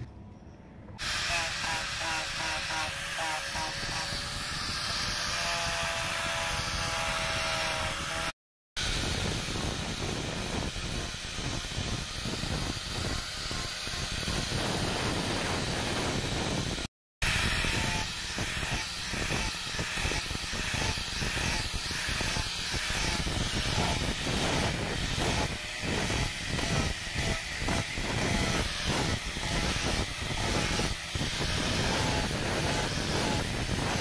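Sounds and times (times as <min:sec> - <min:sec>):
angle grinder sanding wood: 0:01.0 - 0:34.0.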